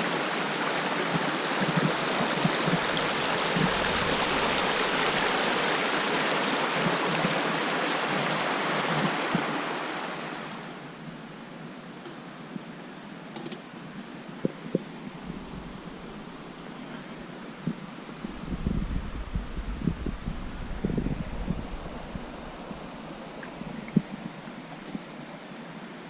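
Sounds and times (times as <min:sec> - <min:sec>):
flowing water rushing: 0:00.0 - 0:26.0.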